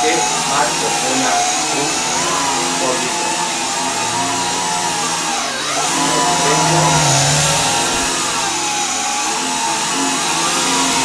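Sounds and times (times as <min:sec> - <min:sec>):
toy quadcopter buzzing whine: 0:00.0 - 0:11.0.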